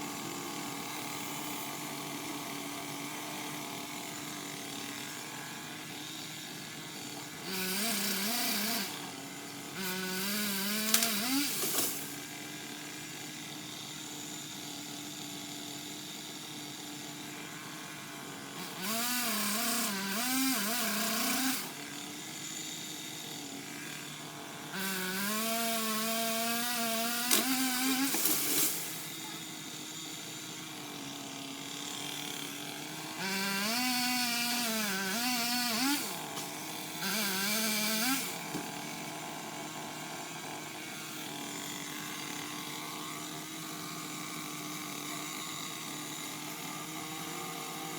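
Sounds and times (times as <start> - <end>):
chainsaw motor humming: 0.0 - 47.9
pole chainsaw cutting wood: 0.0 - 47.9.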